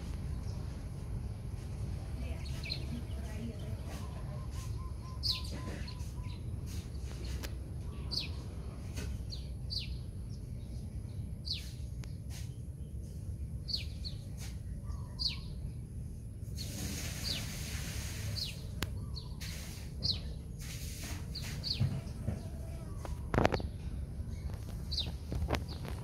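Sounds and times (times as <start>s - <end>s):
low background rumble: 0.0s - 26.0s
bird chirping: 2.3s - 15.9s, 16.5s - 26.0s.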